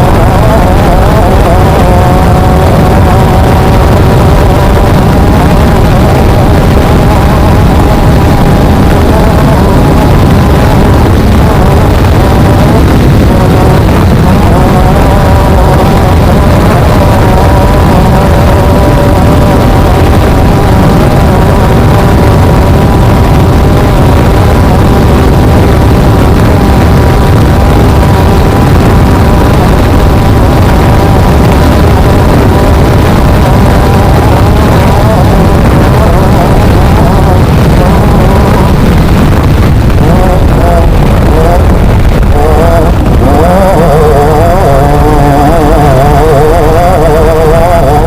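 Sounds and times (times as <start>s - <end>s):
low rumble from rough ride: 0.0s - 48.0s
race car engine at high revs: 0.0s - 48.0s
wind on microphone: 0.0s - 48.0s.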